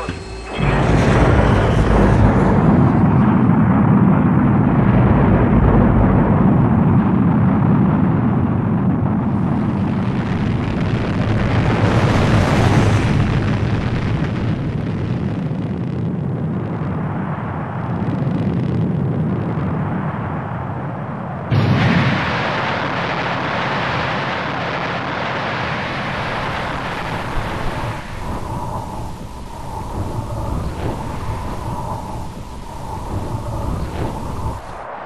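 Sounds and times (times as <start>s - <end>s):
rocket engine roaring: 0.0s - 35.0s.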